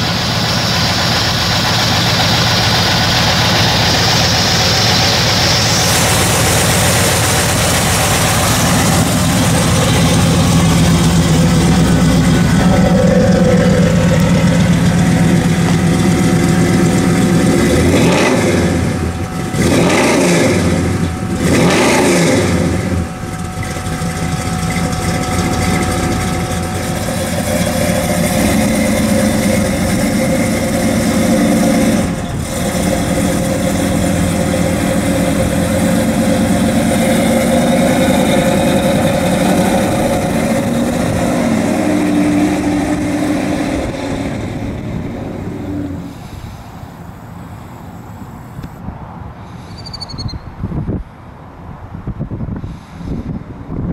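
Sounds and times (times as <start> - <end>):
vehicle engine revving: 0.0 - 48.7.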